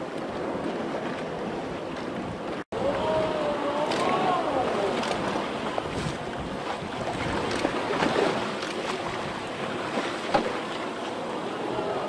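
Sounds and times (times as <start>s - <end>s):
wind buffeting microphone: 0.0s - 10.6s
water rushing and splashing: 0.0s - 12.0s.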